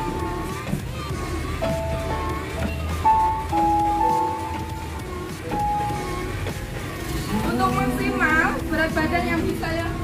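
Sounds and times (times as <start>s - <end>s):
simple electronic tune: 0.0s - 8.7s.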